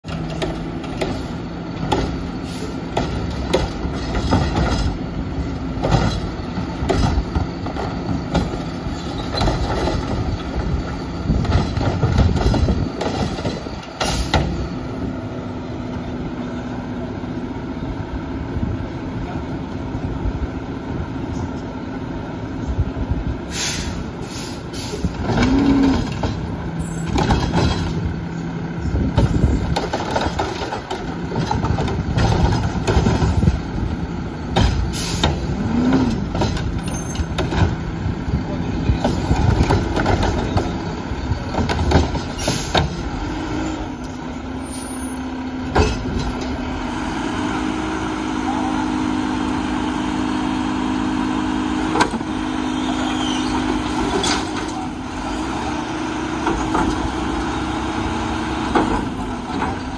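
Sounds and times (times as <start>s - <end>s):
garbage truck idling: 0.0s - 59.9s
hydraulics working: 0.0s - 59.9s.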